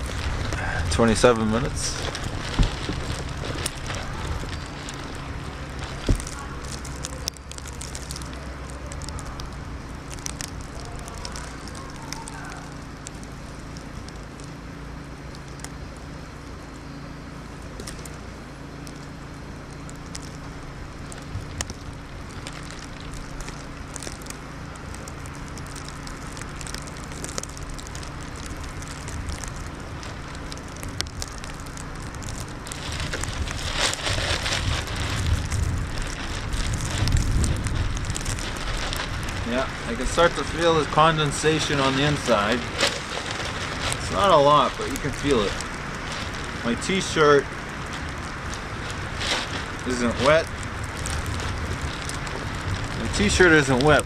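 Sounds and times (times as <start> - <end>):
plastic bag crinkling: 0.0 - 14.7, 17.7 - 54.0.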